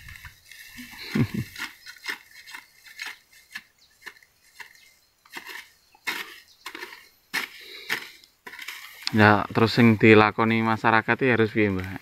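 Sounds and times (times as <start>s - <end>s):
dry grass crackling and snapping: 0.0s - 12.0s.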